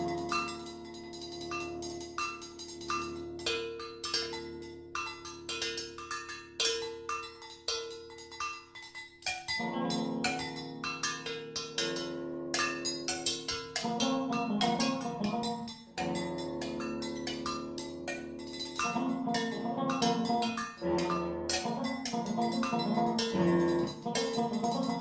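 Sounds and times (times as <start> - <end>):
percussion strikes: 0.0 - 25.0.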